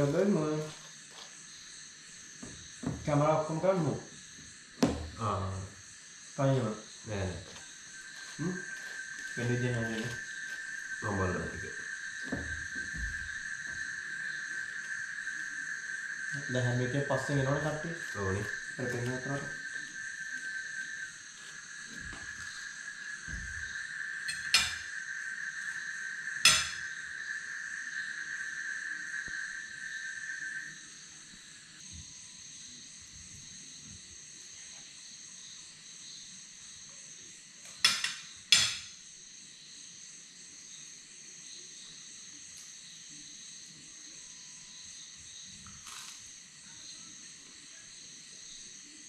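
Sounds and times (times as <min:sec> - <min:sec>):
crickets chirring: 0:00.0 - 0:49.0.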